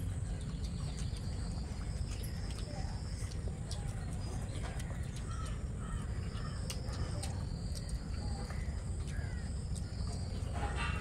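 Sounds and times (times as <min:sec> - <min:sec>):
faint birds and insects: 0:00.0 - 0:11.0
low background rumble: 0:00.0 - 0:11.0
people chewing: 0:00.0 - 0:11.0.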